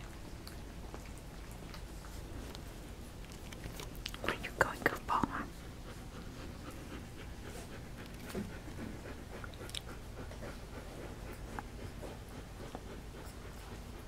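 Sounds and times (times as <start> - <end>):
puppies suckling: 0.0 - 4.5, 5.2 - 14.0
low steady hum: 0.0 - 14.0.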